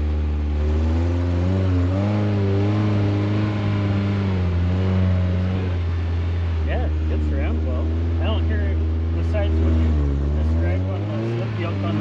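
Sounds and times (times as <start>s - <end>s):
engine drone from inside vehicle: 0.0s - 12.0s.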